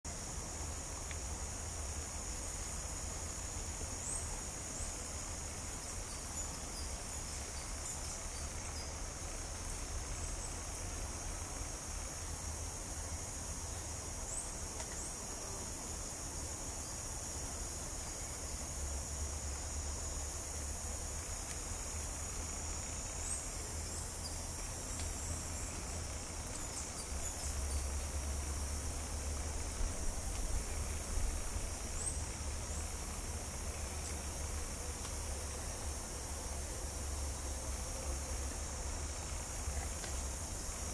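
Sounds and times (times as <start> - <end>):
faint insect chirps: 0.1 - 40.9
insects droning: 0.1 - 40.9.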